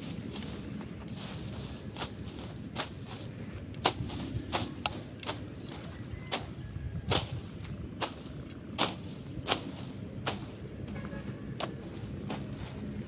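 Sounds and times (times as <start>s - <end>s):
sickle cutting dry straw: 0.0s - 13.0s.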